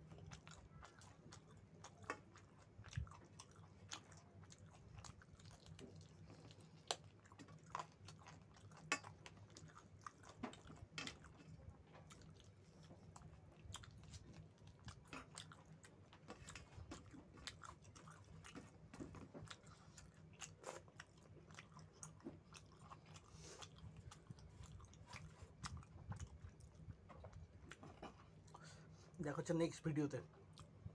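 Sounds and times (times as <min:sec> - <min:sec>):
faint low hum: 0:00.0 - 0:30.9
wet chewing and smacking: 0:00.0 - 0:30.9.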